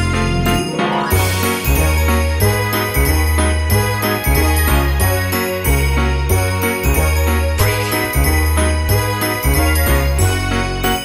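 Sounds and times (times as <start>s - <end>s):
bass line: 0.0s - 11.0s
festive holiday tune with sleigh bells: 0.0s - 11.0s.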